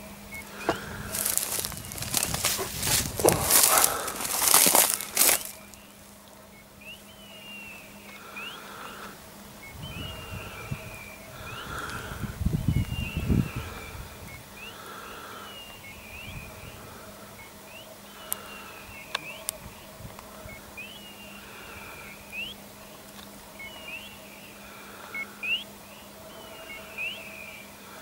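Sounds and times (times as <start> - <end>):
birds chirping: 0.0 - 28.0
faint steady hum: 0.0 - 28.0.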